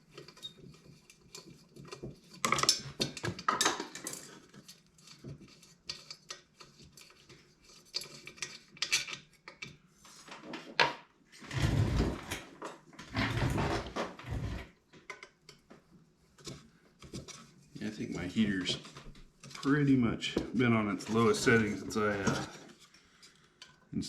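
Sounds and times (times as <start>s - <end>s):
rubbing and handling noise: 0.0s - 24.0s.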